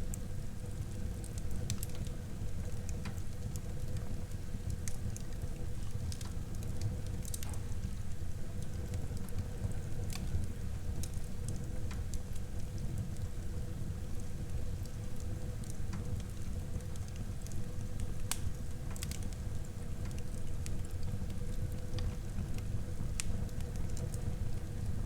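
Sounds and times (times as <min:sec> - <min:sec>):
burning wood crackling and popping: 0:00.0 - 0:25.0
fire flames rumbling: 0:00.0 - 0:25.0.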